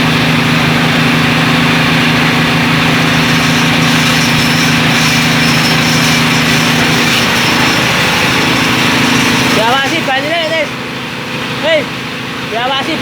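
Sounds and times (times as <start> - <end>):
drilling rig engine running: 0.0 - 13.0.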